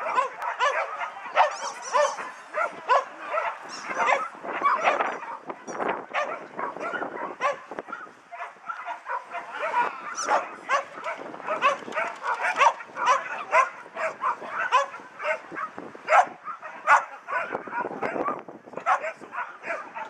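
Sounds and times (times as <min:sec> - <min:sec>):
dogs barking and yipping: 0:00.0 - 0:20.0.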